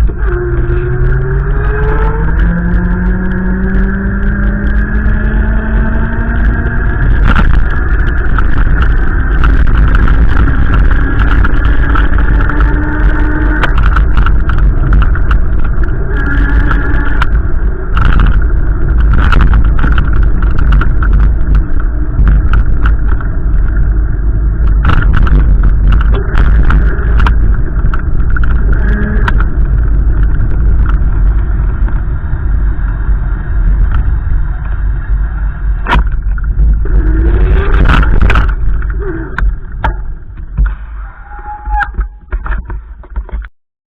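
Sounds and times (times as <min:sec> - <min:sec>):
wind buffeting microphone: 0:00.0 - 0:41.0
vehicle engine humming: 0:00.0 - 0:43.4.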